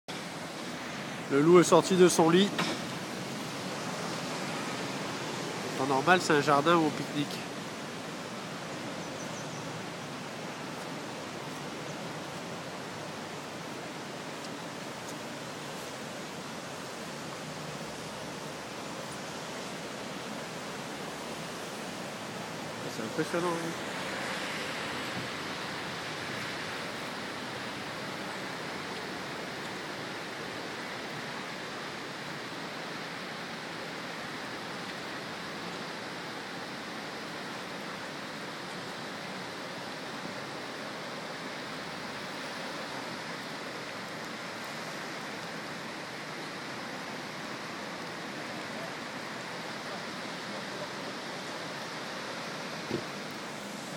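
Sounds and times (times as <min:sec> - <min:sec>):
rushing floodwater: 0:00.1 - 0:53.9.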